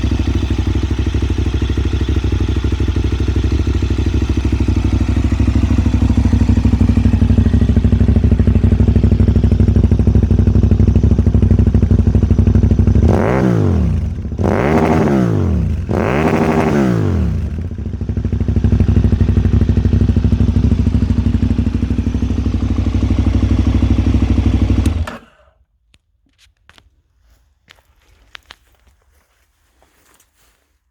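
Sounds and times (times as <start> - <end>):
motorcycle engine idling and revving: 0.0 - 25.5.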